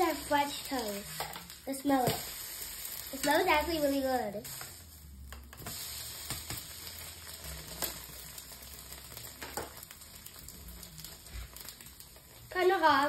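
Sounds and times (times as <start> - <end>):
bread sizzling in a frying pan: 0.0 - 13.0.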